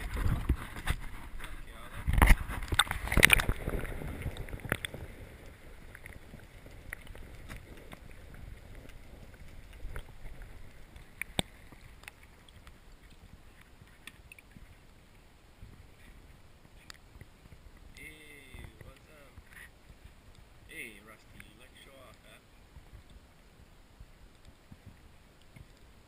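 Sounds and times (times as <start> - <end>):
wind rumble on microphone: 0.0 - 21.8, 22.7 - 26.0
water lapping against kayak: 0.0 - 26.0.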